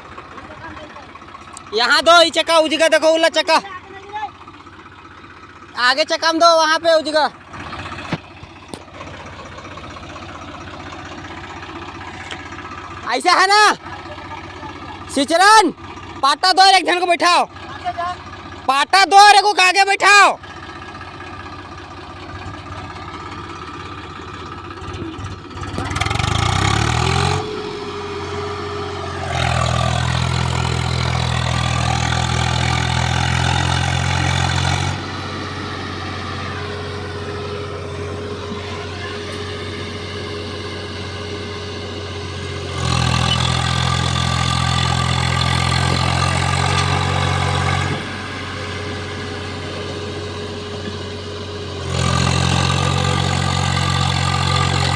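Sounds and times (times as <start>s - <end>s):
tractor diesel engine revving: 0.0s - 54.9s.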